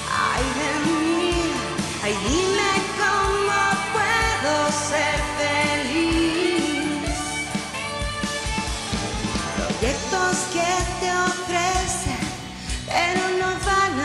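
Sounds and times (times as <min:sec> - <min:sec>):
woman singing: 0:00.0 - 0:07.4, 0:09.8 - 0:14.0
electric guitar: 0:00.0 - 0:14.0.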